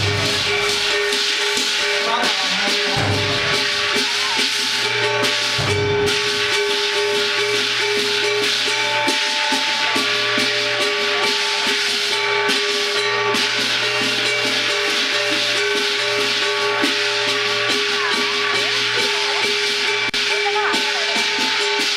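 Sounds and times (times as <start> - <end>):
held reedy tones: 0.0 - 21.9
shimmering percussion rattle: 0.0 - 21.9.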